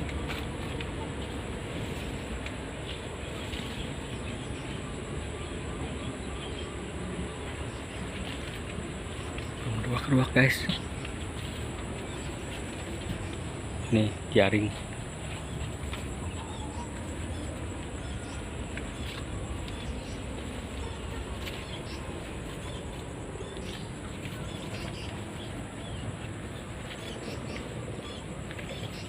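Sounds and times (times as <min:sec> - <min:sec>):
high-pitched insect whine: 0:00.0 - 0:29.0
small birds chirping: 0:00.0 - 0:29.0.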